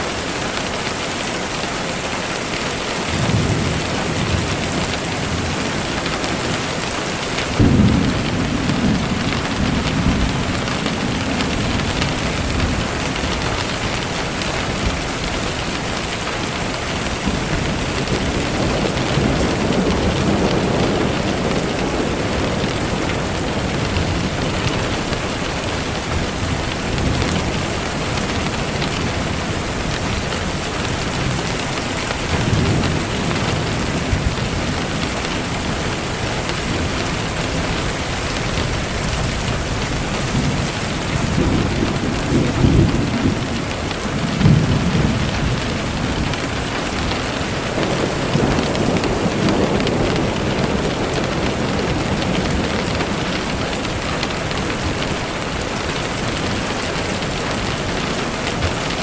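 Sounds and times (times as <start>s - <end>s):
steady rain falling: 0.0s - 59.0s
thunder rumbling: 2.4s - 59.0s.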